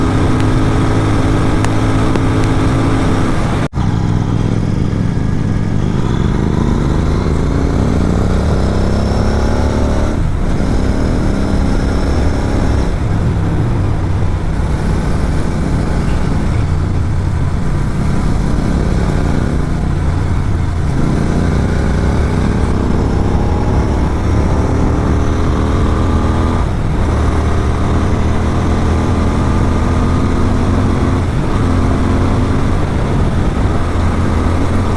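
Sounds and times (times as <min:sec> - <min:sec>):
motorcycle engine at speed: 0:00.0 - 0:34.9.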